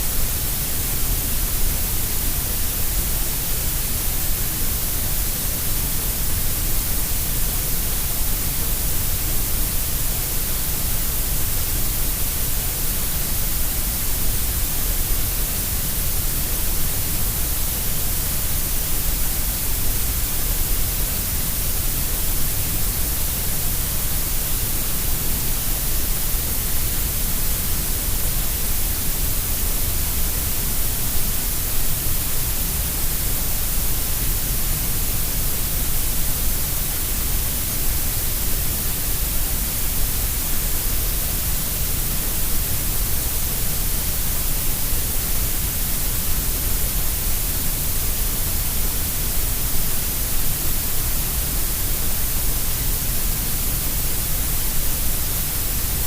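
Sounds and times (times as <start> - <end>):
steady grey noise hiss: 0.0 - 56.0.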